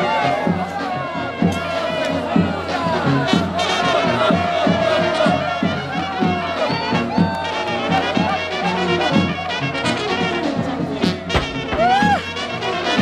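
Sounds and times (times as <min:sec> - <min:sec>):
brass band music: 0:00.0 - 0:13.0.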